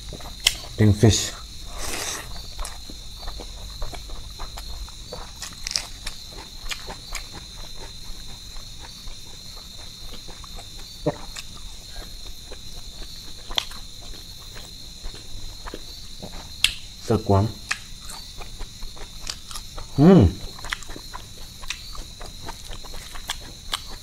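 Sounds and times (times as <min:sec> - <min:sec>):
person chewing: 0:00.0 - 0:00.8, 0:01.7 - 0:17.0, 0:17.6 - 0:24.0
high-pitched insect trill: 0:00.0 - 0:24.0.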